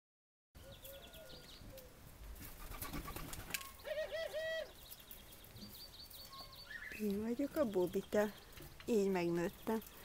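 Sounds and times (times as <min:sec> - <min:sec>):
doves calling: 0:00.6 - 0:10.0
small birds chirping: 0:00.6 - 0:10.0.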